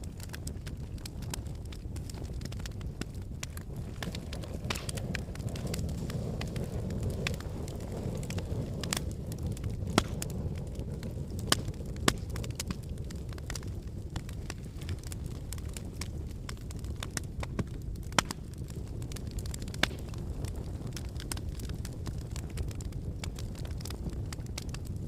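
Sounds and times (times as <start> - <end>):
fire crackles and pops: 0.0 - 25.0
low rumble of flames: 0.0 - 25.0.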